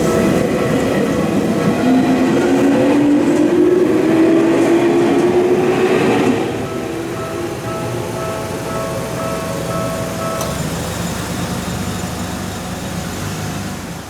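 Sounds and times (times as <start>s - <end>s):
crossing warning bell: 0.0s - 13.3s
train wheels rumbling on rails: 0.0s - 14.0s.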